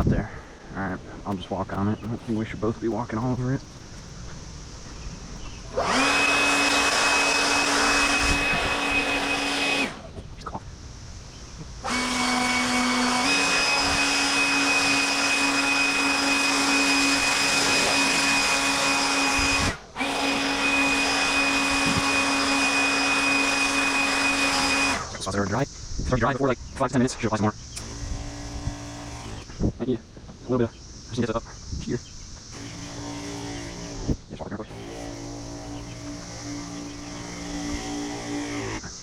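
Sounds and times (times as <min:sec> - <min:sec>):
electric pump humming: 0:00.0 - 0:10.6, 0:11.8 - 0:25.6, 0:27.6 - 0:29.6, 0:32.5 - 0:39.0.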